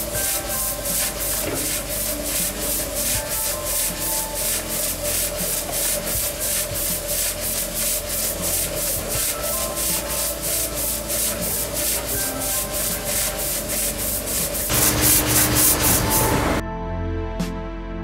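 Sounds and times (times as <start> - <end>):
steam chuffing hiss: 0.0 - 16.6.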